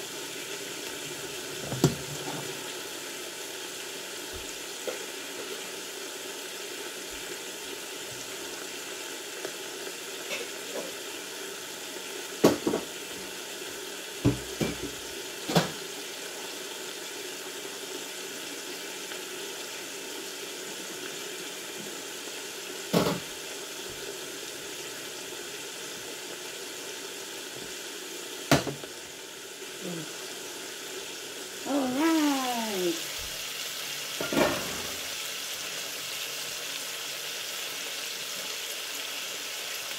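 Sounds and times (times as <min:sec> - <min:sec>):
steak sizzling in a frying pan: 0:00.0 - 0:39.9.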